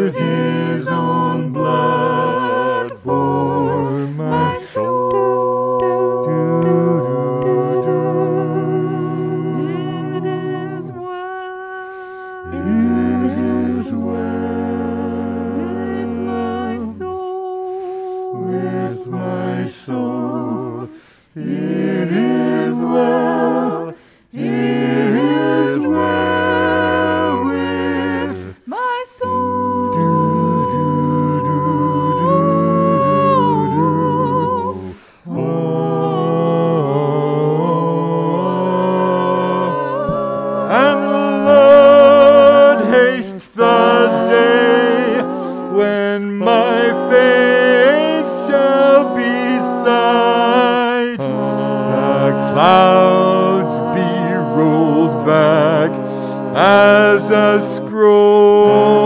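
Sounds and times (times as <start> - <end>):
vocal ensemble singing: 0.0 - 59.0.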